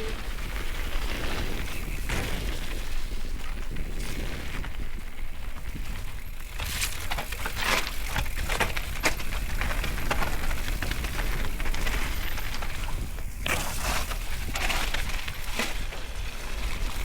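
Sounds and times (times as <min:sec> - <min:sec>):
bike crackles knocks and rattles: 0:00.5 - 0:17.0.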